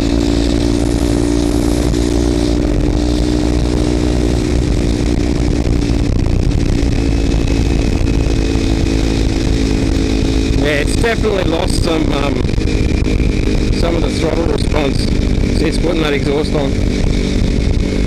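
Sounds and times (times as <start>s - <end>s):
motorcycle engine raspy exhaust: 0.0s - 18.0s.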